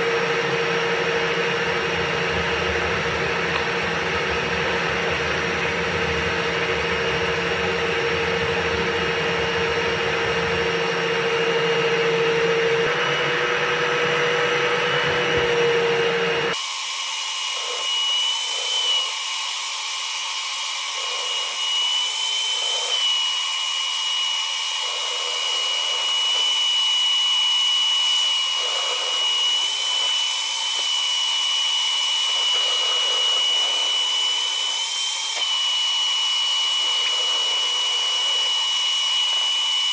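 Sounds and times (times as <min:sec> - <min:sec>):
cordless drill whining: 0:00.0 - 0:39.9.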